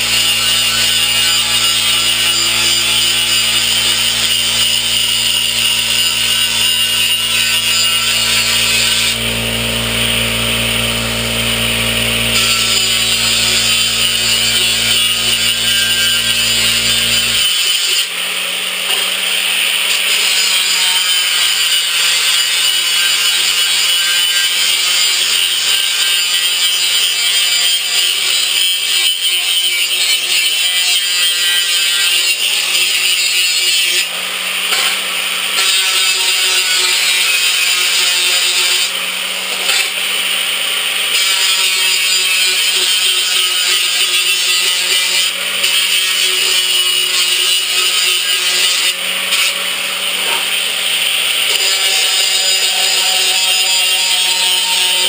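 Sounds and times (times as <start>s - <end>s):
power tool cutting sheet steel: 0.0s - 55.0s.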